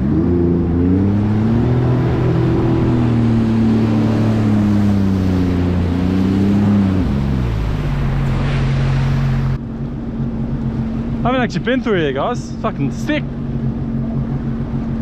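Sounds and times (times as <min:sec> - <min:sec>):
jet ski engine running: 0:00.0 - 0:15.0
rushing water: 0:00.0 - 0:15.0
wind: 0:00.0 - 0:15.0.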